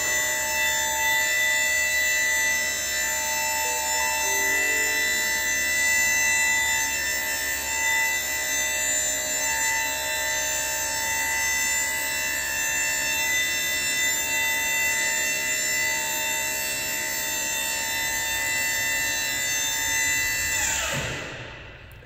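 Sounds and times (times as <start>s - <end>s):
hydraulic hoist pump whining: 0.0s - 22.0s.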